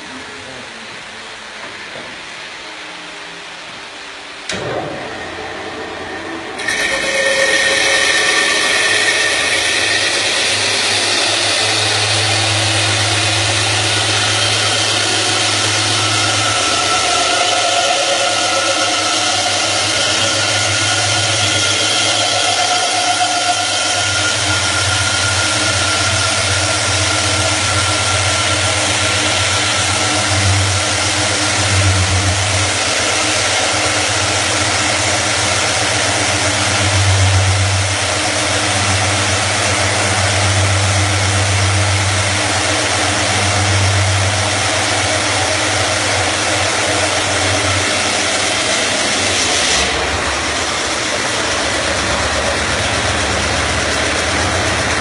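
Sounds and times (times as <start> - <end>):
low motor hum: 0.0 - 55.0.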